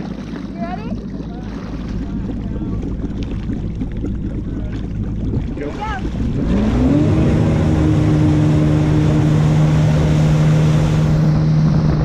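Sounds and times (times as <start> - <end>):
jet ski engine revving: 0.0 - 12.0.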